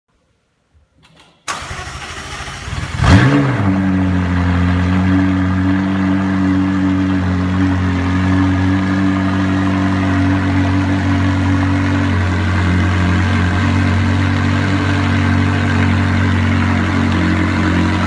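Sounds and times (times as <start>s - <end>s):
engine revving then idling: 1.5s - 18.0s.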